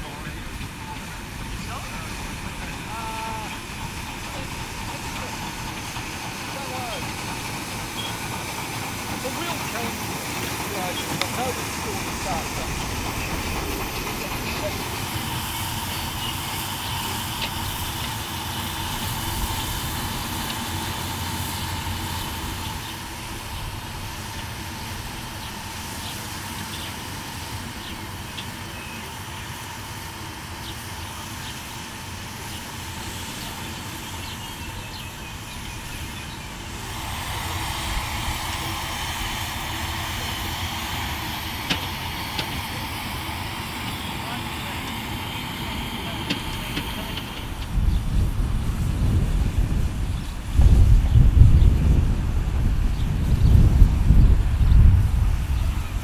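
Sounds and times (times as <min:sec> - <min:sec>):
model steam locomotive hiss and rumble: 0:00.0 - 0:56.0.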